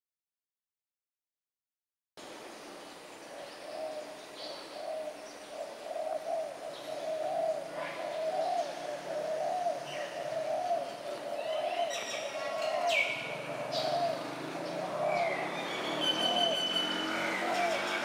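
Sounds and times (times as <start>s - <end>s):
small birds chirping: 2.6s - 18.0s
doves cooing: 3.3s - 18.0s.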